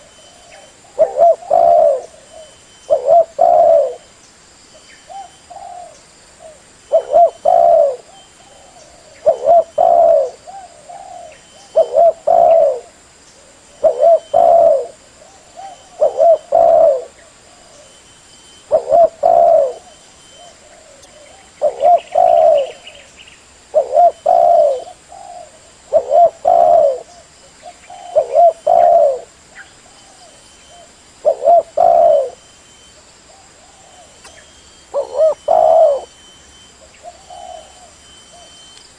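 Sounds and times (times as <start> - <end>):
dove cooing: 0.0 - 4.1, 5.1 - 18.0, 18.6 - 23.1, 23.7 - 32.4, 33.3 - 38.7.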